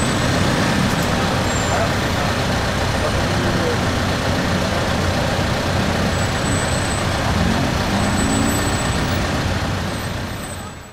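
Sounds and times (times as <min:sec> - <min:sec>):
vehicles passing: 0:00.0 - 0:10.9.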